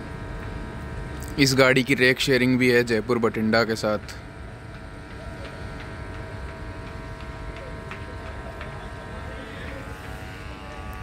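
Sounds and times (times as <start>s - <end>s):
train hum: 0.0s - 11.0s.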